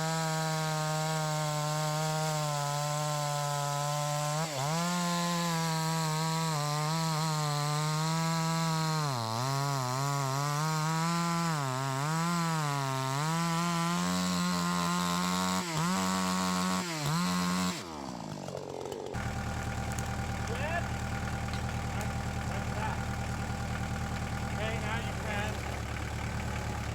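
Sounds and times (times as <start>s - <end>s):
chainsaw cutting wood: 0.0s - 26.9s.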